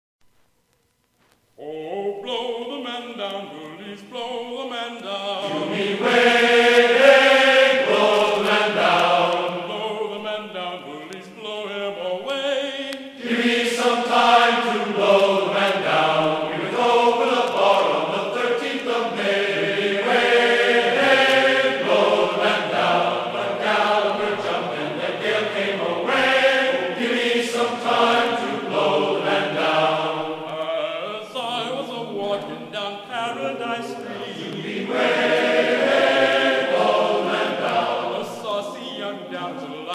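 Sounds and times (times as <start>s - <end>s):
choir chanting held notes: 1.6s - 39.9s.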